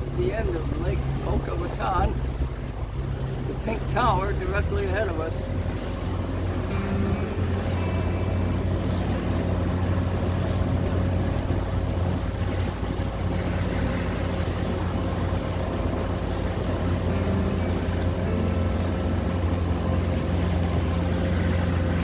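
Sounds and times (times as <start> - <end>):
boat motor humming: 0.0 - 22.0
water noise: 0.0 - 22.0
wind: 0.0 - 22.0.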